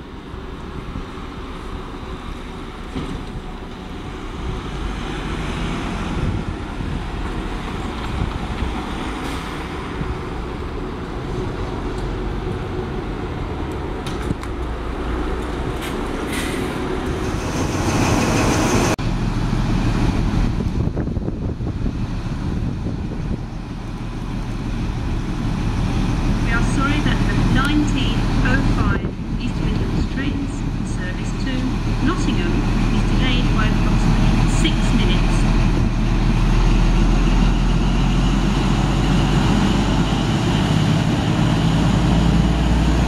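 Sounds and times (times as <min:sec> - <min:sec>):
bus engine running: 0:00.0 - 0:43.0
diesel train engine running: 0:00.0 - 0:43.0
traffic noise: 0:00.0 - 0:43.0.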